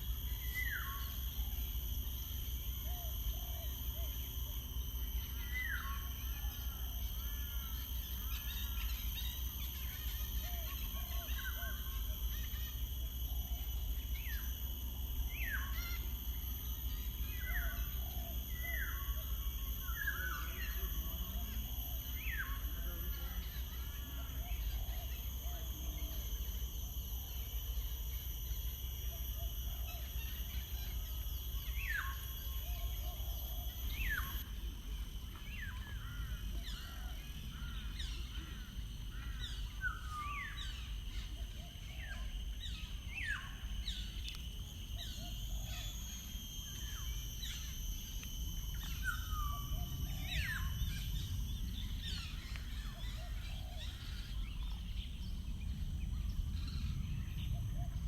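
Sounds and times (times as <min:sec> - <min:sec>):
high-pitched ringing: 0:00.0 - 0:58.0.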